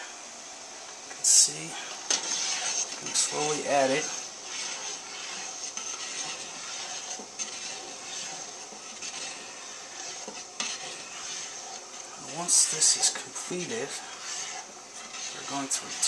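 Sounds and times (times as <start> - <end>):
spoon stirring in a pot: 1.5 - 16.0.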